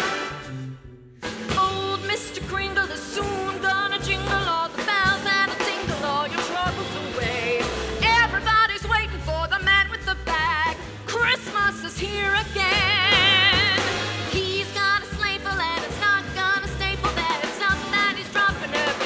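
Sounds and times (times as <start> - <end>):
big band swing music: 0.0 - 19.0.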